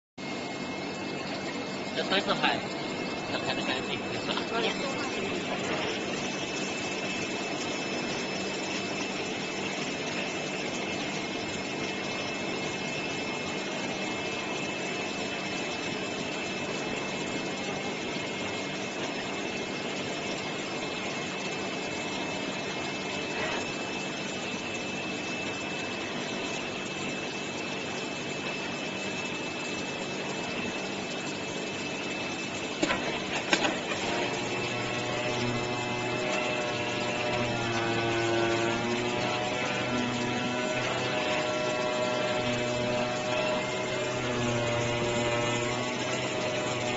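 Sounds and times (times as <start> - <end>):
cutting plotter humming: 0.2 - 46.9.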